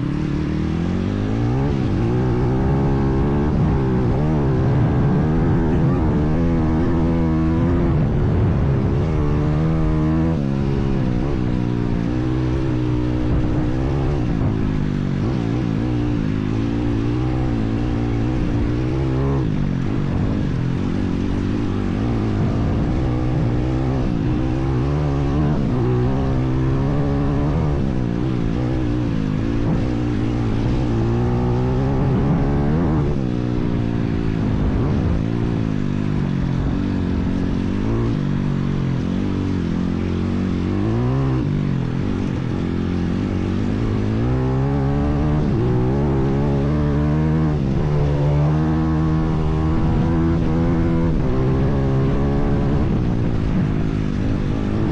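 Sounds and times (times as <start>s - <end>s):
pit bike engine revving: 0.0s - 54.9s.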